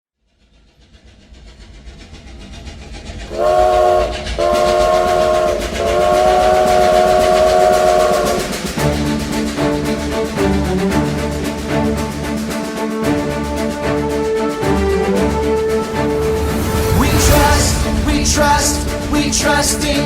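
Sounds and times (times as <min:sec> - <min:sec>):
train wheels clattering on rails: 0:00.3 - 0:20.0.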